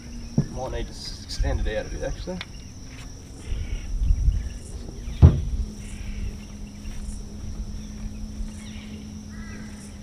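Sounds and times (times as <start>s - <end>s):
pole handling rumble: 0.0s - 9.5s
birds calling: 0.0s - 10.0s
low steady hum: 0.0s - 10.0s.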